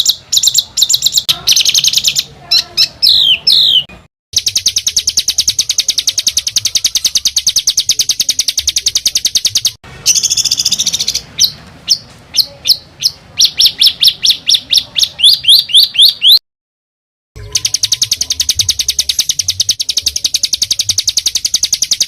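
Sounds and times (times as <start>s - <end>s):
songbird trilling song: 0.0s - 16.4s, 17.4s - 22.0s.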